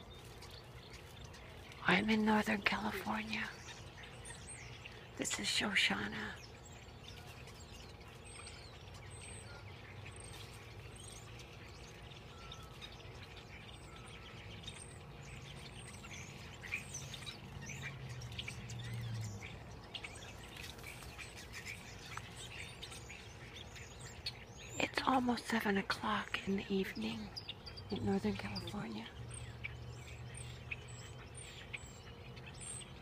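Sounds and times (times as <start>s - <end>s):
flock of birds chirping: 0.0s - 33.0s.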